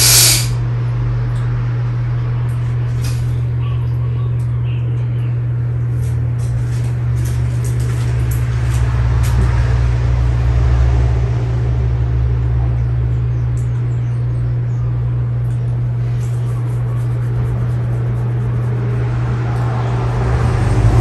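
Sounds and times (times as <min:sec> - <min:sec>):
ceiling fan motor humming: 0:00.0 - 0:21.0
deep rumble: 0:00.0 - 0:21.0.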